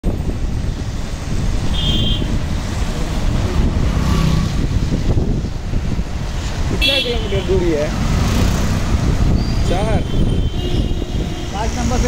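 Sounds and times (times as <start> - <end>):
traffic rumble: 0.0 - 12.0
wind buffeting microphone: 0.0 - 12.0.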